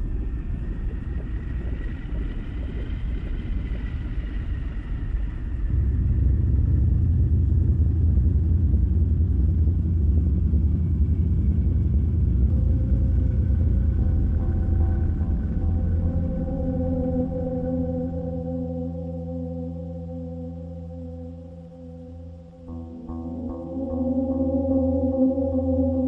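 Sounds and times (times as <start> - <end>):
faint high whine: 0.0 - 26.0
steady low rumble: 0.0 - 26.0.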